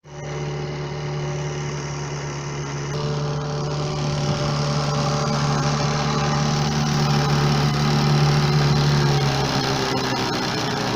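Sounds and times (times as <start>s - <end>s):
engine humming: 0.0s - 10.9s.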